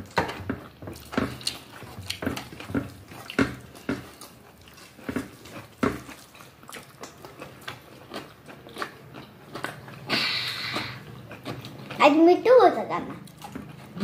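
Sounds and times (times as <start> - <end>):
person chewing food: 0.0 - 12.0, 13.0 - 14.0.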